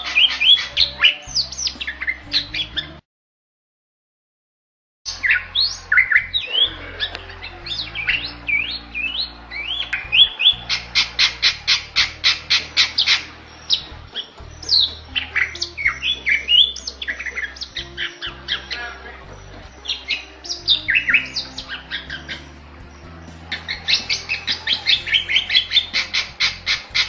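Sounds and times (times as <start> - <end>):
myna whistling song: 0.0 - 3.0, 5.1 - 27.0.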